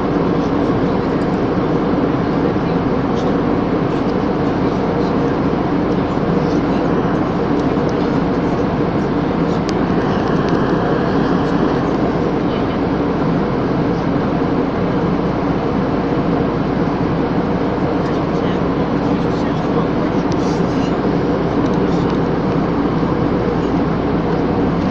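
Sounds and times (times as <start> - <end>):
aeroplane cabin drone: 0.0 - 24.9.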